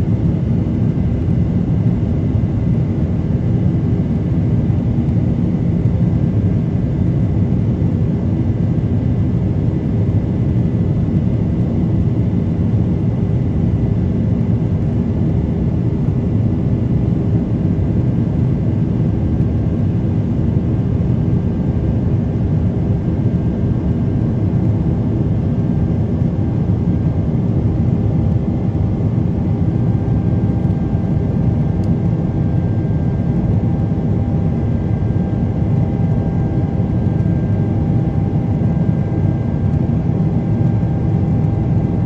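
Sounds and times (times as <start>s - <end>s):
jet engines low rumble: 0.0s - 42.0s.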